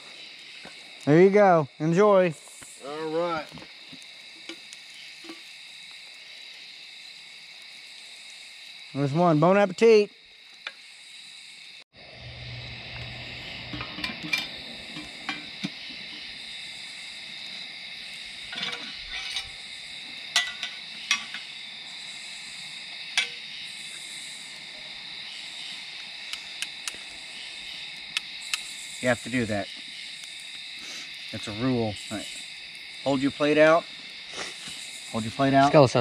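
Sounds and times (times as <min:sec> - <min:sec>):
crickets chirring: 0:00.0 - 0:36.0.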